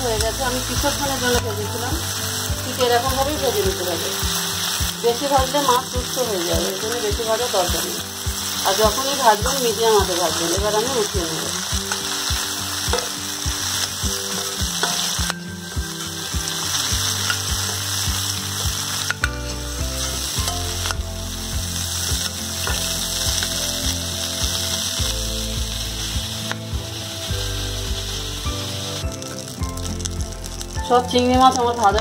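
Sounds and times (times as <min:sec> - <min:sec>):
prawns sizzling in oil: 0:00.0 - 0:32.0.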